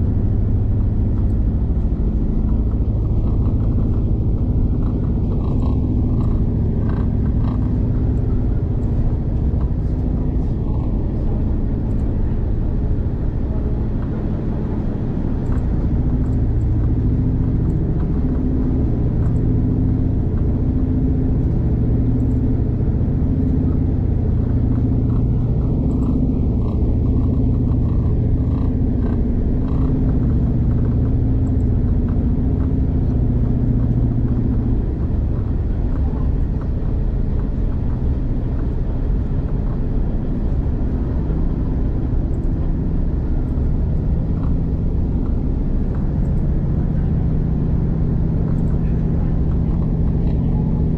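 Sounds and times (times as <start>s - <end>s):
train rumbling from inside carriage: 0.0s - 50.9s.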